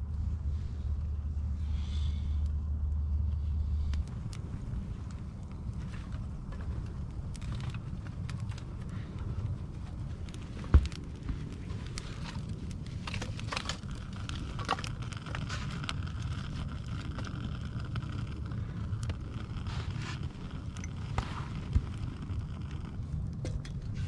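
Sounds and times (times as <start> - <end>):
low rumble: 0.0 - 24.0
campfire crackling and popping: 0.9 - 24.0.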